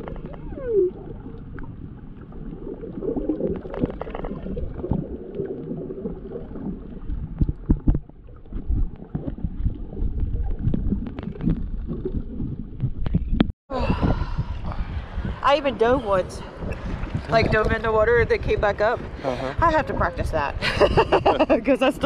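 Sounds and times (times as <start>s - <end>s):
knocks underwater: 0.0s - 15.4s, 16.5s - 20.5s
muffled underwater water sloshing: 0.0s - 22.0s.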